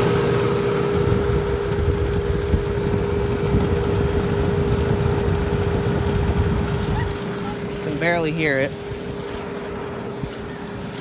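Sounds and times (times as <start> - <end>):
fan and air rumble: 0.0 - 11.0.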